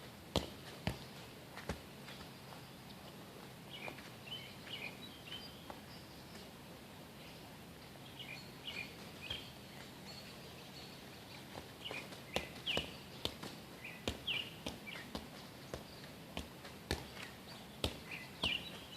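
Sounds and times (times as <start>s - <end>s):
outdoor background noise: 0.0s - 18.9s
bird chirping: 2.0s - 6.5s, 7.1s - 18.9s.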